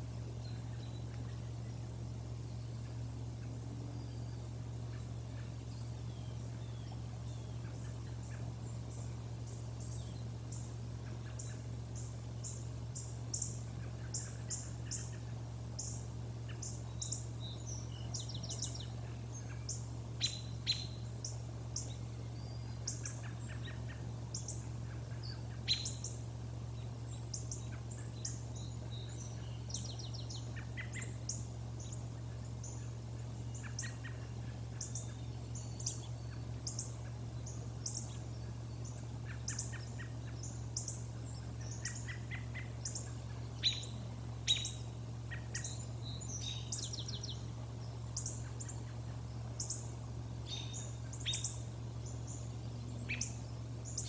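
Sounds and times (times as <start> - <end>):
birds chirping: 0.0 - 54.0
steady low hum: 0.0 - 54.0.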